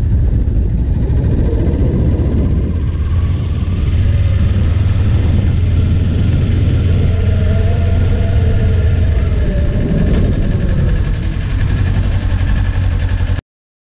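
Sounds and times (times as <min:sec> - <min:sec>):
motorcycle engine rumbling: 0:00.0 - 0:13.4.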